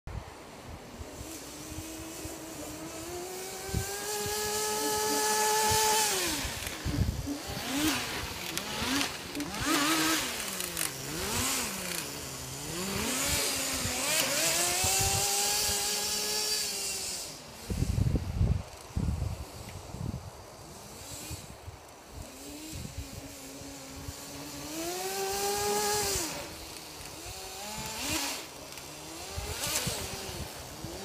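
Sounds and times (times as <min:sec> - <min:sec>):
small nitro engine revving: 0:00.6 - 0:31.0.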